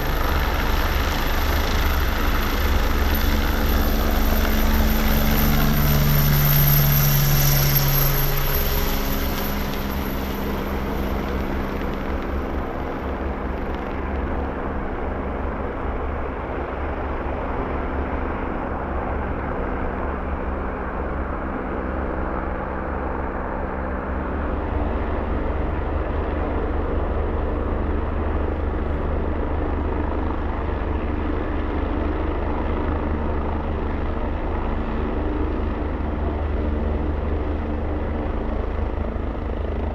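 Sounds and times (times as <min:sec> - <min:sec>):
helicopter rotor noise: 0:00.0 - 0:39.9
high-pitched turbine whine: 0:00.0 - 0:39.9.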